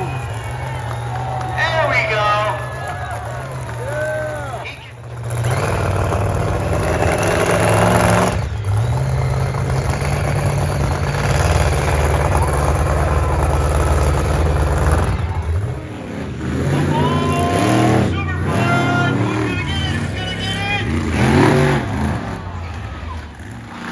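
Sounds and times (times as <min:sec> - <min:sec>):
truck engine at high revs: 0:00.0 - 0:23.9.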